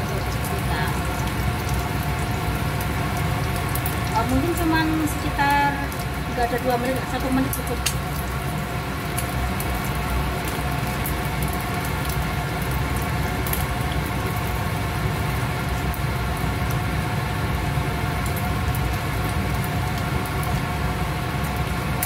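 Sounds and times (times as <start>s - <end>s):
gas burner roar and hum: 0.0s - 22.0s
oil sizzling with crackles and pops: 0.0s - 22.0s.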